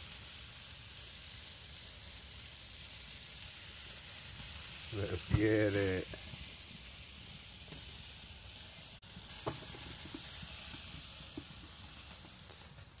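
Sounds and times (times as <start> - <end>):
chicken sizzling on grill: 0.0 - 13.0.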